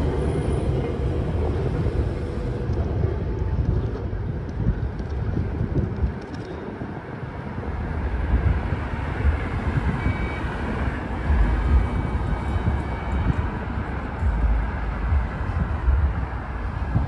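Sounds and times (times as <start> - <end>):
road vehicle noise: 0.0 - 17.0
wind rumbling on microphone: 0.0 - 17.0.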